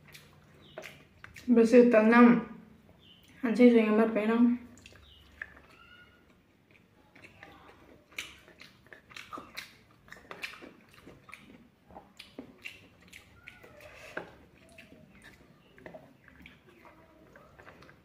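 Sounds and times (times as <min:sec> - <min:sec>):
person chewing and biting: 0:00.0 - 0:01.5, 0:04.8 - 0:18.0
mouth clicks and smacks: 0:00.0 - 0:01.6, 0:04.7 - 0:18.0.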